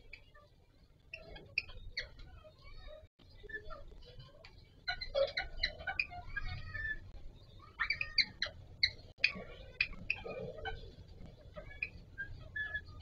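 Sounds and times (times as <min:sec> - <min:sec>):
parakeets chattering: 0:00.0 - 0:13.0.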